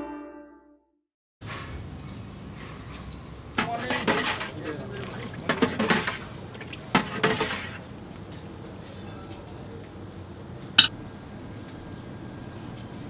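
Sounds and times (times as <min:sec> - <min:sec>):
steady background noise: 0:01.4 - 0:13.0.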